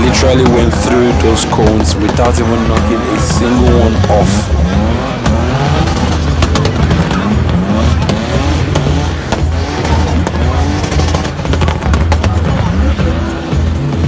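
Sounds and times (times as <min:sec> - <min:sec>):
background music with a beat: 0:00.0 - 0:14.0
car engine revving: 0:00.0 - 0:14.0.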